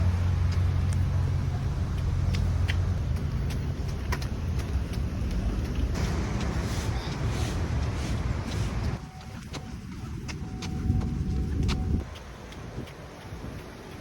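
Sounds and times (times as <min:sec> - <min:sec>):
footsteps outdoors: 0:00.0 - 0:14.0.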